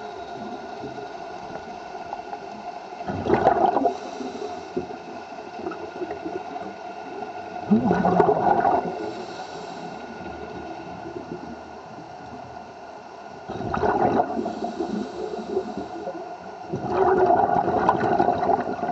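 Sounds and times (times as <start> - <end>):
steady mechanical hum: 0.0 - 18.9
water sloshing and gurgling: 0.0 - 18.9.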